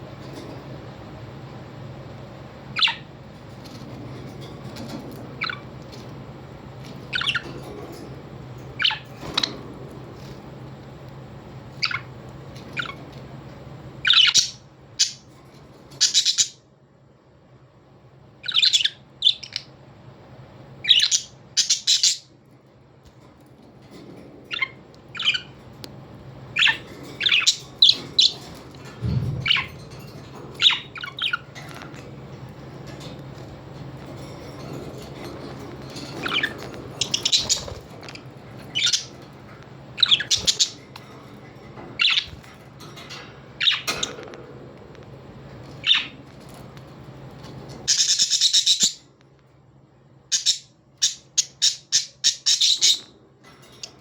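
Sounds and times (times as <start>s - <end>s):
faint low hum: 0.0s - 54.0s
birds chirping and squawking: 2.6s - 10.7s, 11.4s - 16.7s, 18.3s - 44.5s, 45.4s - 49.1s, 50.3s - 54.0s.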